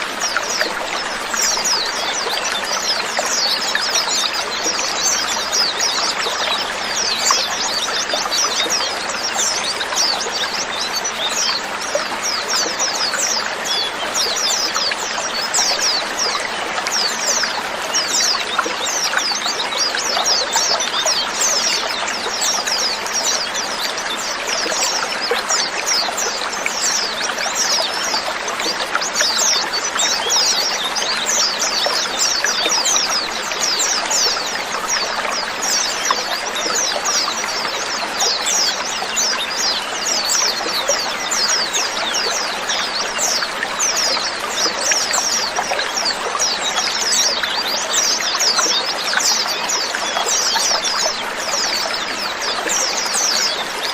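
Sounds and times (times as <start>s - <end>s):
flock of birds chirping: 0.0s - 53.9s.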